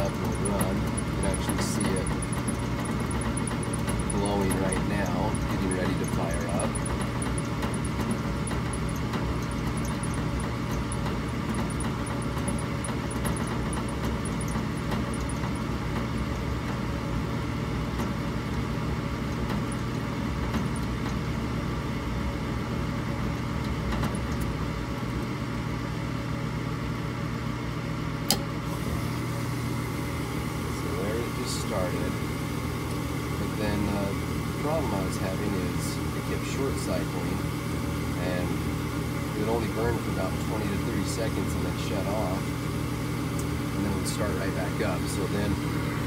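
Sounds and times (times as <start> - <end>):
furnace blower humming: 0.0 - 46.0.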